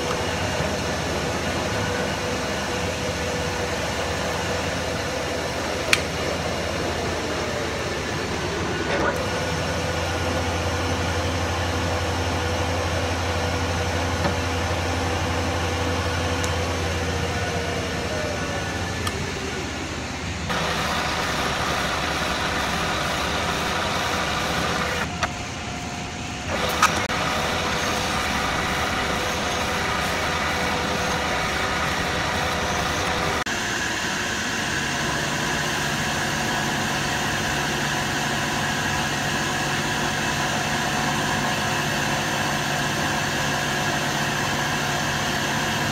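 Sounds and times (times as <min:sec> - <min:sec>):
cnc mill cutting metal: 0:00.0 - 0:45.9.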